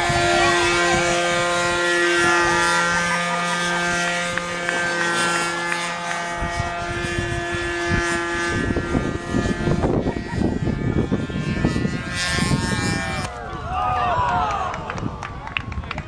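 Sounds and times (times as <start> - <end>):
model airplane motor droning: 0.0 - 15.9.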